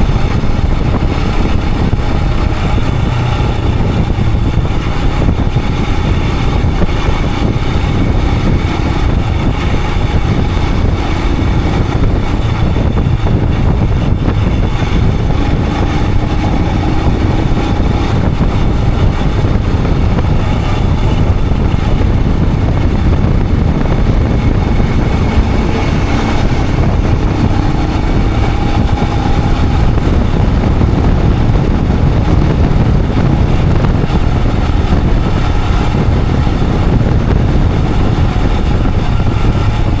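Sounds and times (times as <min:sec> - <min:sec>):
motorcycle engine running: 0:00.0 - 0:40.0
wind rush on microphone: 0:00.0 - 0:40.0.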